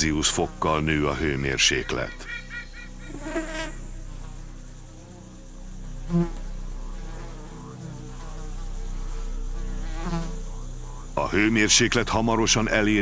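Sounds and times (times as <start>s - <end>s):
flies buzzing: 0.0s - 13.0s.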